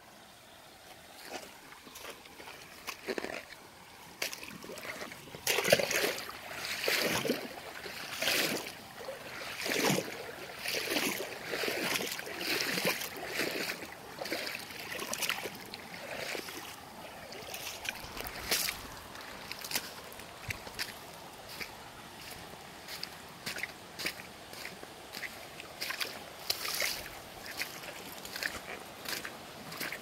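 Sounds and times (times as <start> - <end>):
footsteps splashing through stream: 0.7 - 30.0.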